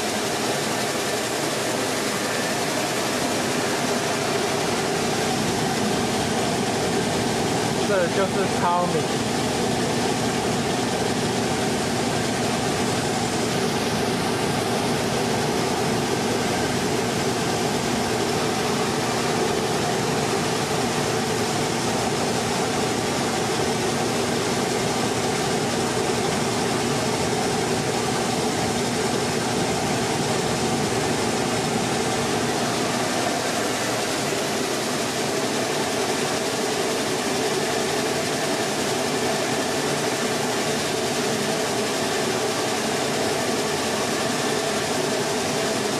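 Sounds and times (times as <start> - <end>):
rice mill humming: 0.0 - 45.9.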